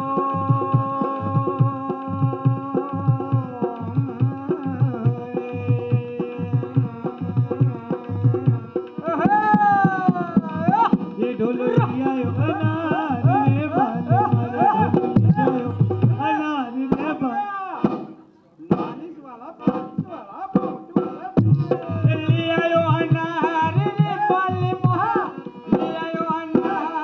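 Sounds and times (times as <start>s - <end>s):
hand drum rhythm: 0.0s - 17.2s, 19.6s - 27.0s.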